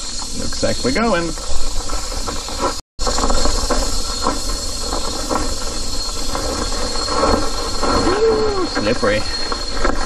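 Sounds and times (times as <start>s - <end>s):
scooter engine rumble: 0.0s - 10.0s
wind rushing over microphone: 0.0s - 10.0s.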